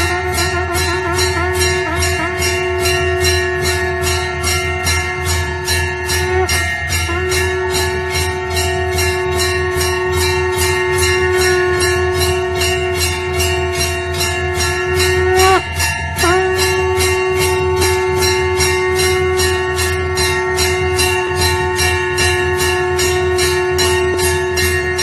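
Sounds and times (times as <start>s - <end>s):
steady held tone: 0.0s - 25.0s
temple bell rung rapidly: 0.0s - 25.0s.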